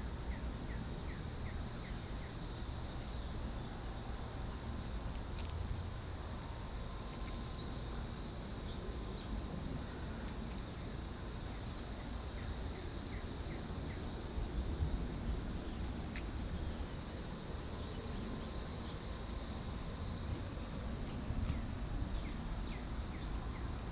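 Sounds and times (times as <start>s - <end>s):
cicadas buzzing: 0.0s - 23.9s.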